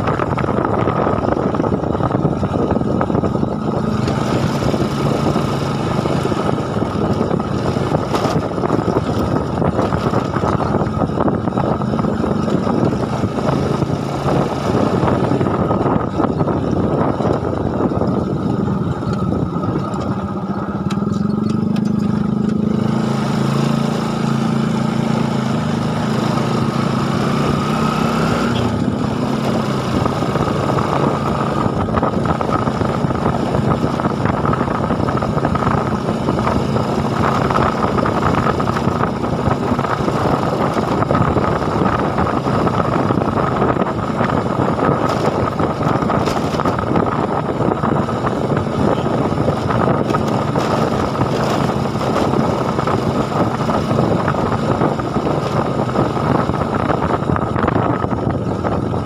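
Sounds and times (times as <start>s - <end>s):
motor engine revving: 0.0s - 59.0s
wind noise: 0.0s - 59.0s.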